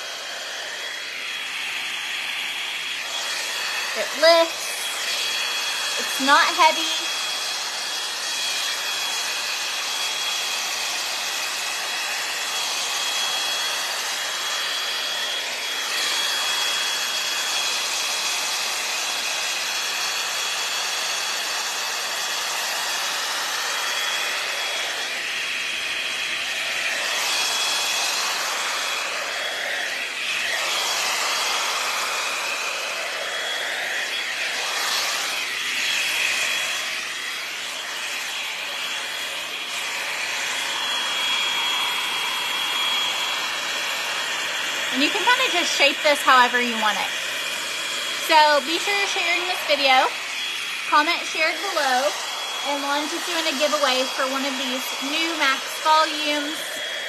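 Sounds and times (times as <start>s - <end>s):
hot air brush blowing and whining: 0.0s - 57.0s.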